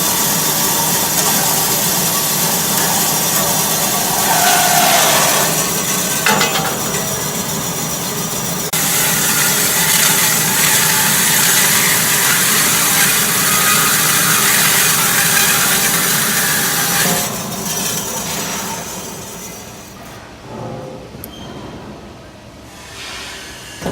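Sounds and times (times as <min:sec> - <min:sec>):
band saw cutting metal: 0:00.0 - 0:20.2.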